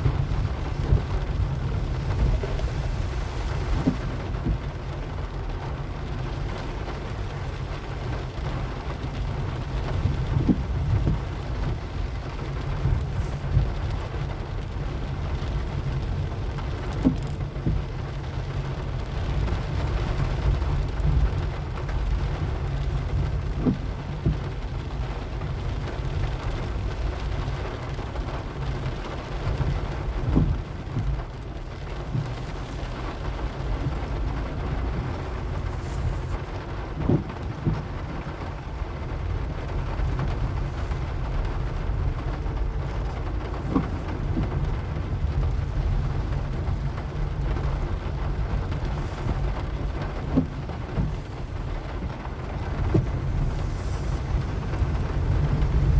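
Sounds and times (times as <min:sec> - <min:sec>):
car engine and tyres rumbling: 0:00.0 - 0:55.9
rain hissing: 0:00.0 - 0:55.9.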